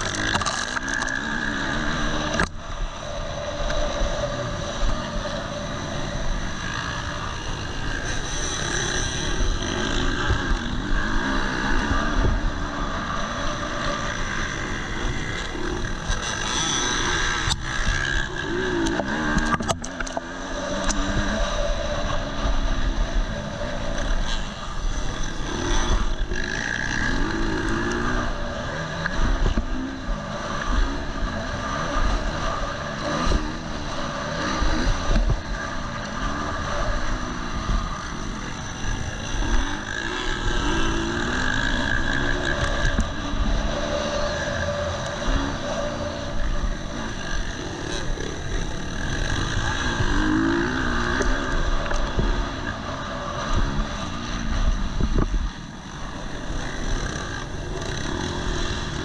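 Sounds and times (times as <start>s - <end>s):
motocross engine revving: 0.0s - 59.0s.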